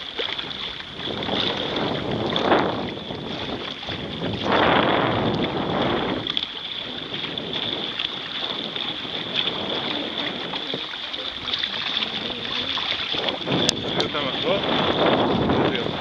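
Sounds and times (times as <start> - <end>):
water rushing along a boat: 0.0 - 16.0
wind buffeting microphone: 0.0 - 16.0.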